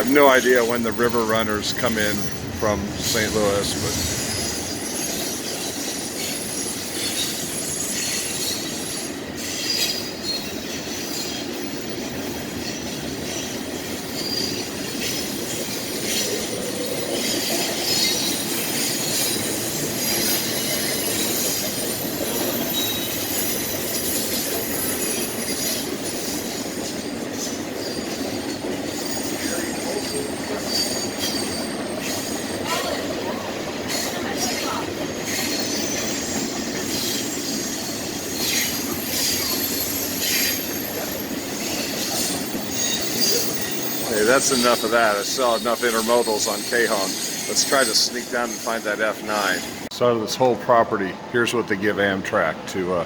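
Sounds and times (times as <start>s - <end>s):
freight train rumble and clatter: 0.0s - 53.0s.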